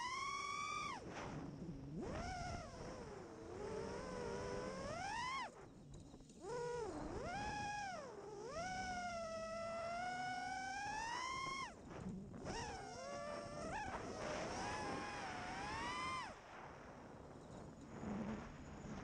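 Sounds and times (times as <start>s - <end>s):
quadcopter propellers whining: 0.0s - 1.1s, 1.9s - 16.4s.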